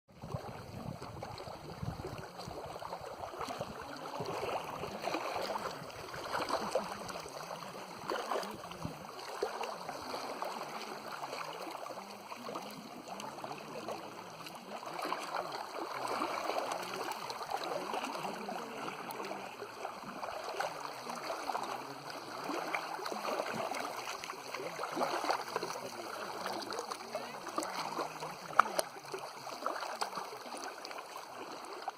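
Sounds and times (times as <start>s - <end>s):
water rushing: 0.2s - 31.9s.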